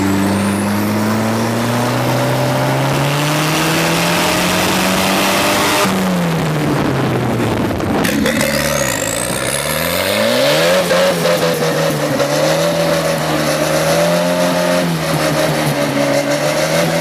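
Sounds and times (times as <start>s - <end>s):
tractor engine accelerating: 0.0s - 17.0s.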